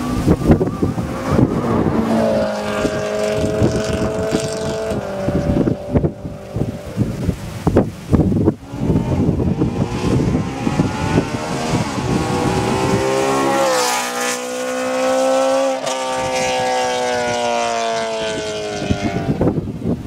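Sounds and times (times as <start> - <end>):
car engine accelerating: 0.0 - 7.1, 8.6 - 19.6
wind noise on microphone: 0.0 - 20.0.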